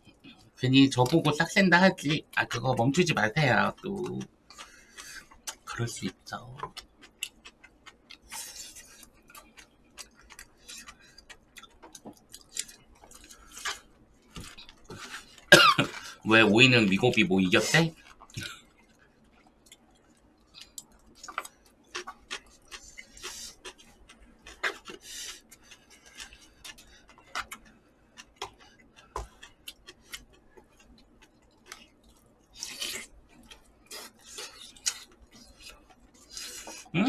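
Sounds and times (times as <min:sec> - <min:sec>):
chewing: 0:03.7 - 0:36.9.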